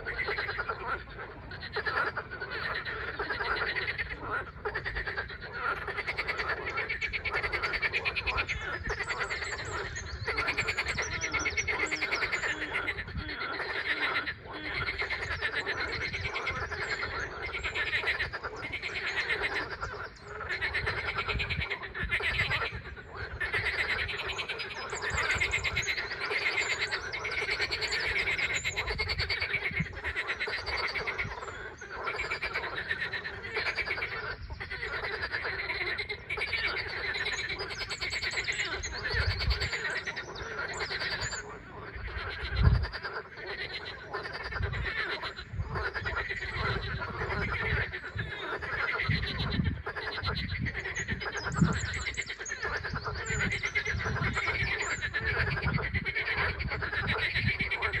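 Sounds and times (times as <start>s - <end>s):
chorus of frogs croaking: 0.0s - 58.0s.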